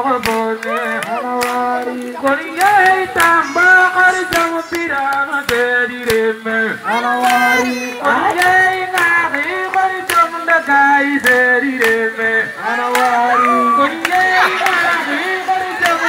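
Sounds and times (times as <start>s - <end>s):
women singing chant-like song: 0.2s - 4.6s, 6.6s - 16.0s.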